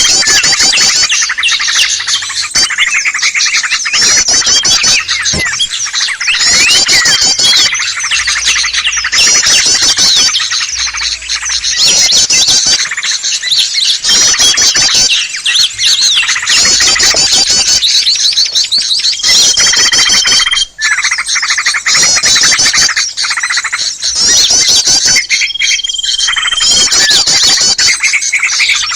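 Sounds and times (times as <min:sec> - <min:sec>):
rapid high bird trills: 0:00.0 - 0:28.9
small birds chirping and twittering: 0:00.0 - 0:28.9.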